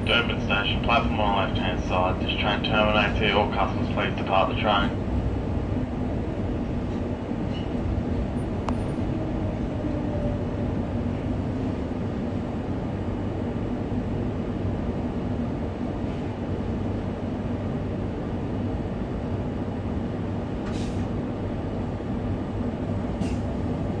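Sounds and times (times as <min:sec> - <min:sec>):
train carriage rumble: 0:00.0 - 0:24.0.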